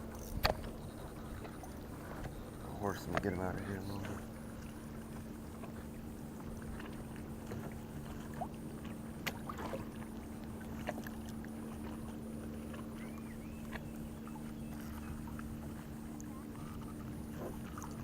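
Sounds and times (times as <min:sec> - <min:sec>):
steady low hum: 0:00.0 - 0:18.0
water and hull noise: 0:00.0 - 0:18.0.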